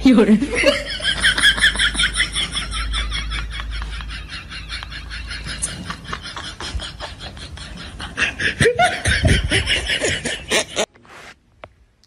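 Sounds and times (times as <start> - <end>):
person laughing in breathy bursts: 0.6 - 10.9.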